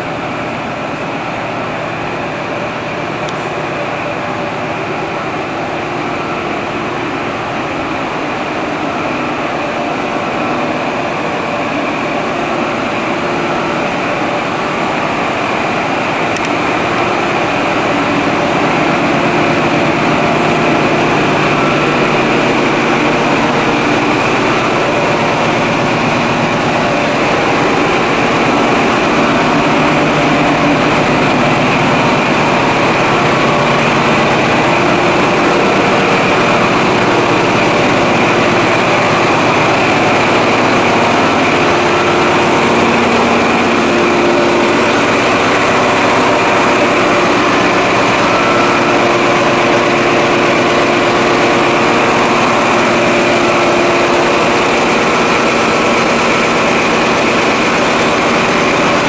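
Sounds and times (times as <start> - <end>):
train diesel engine drone: 0.0 - 59.0.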